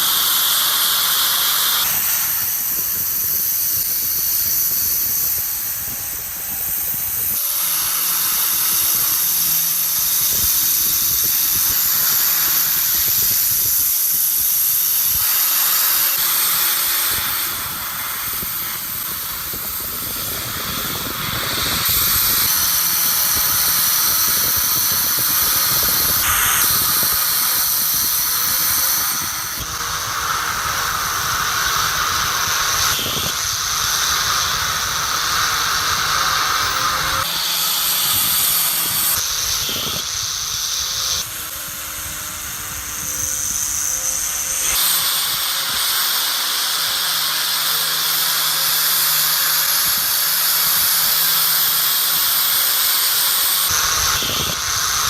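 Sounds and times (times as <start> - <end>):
hissing of metal polishing: 0.0 - 55.0.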